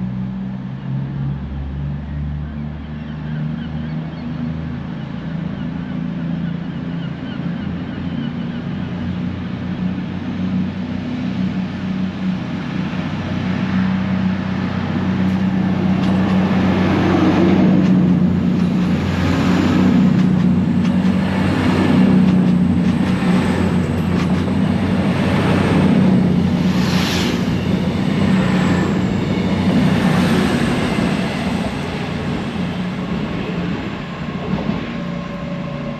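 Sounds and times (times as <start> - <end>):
diesel train engine drone: 0.0 - 35.9.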